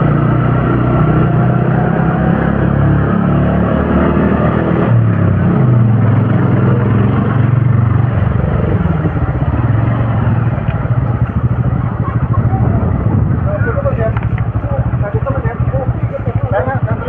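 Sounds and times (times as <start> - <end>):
scooter engines climbing uphill: 0.0 - 17.0.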